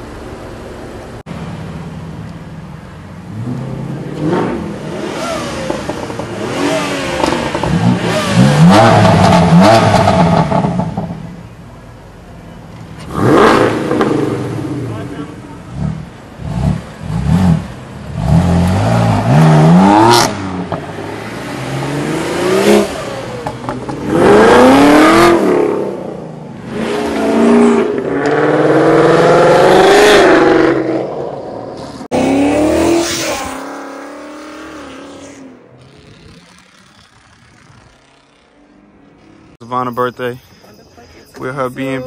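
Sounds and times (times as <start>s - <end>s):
car engine revving: 3.2s - 11.3s, 13.0s - 39.6s.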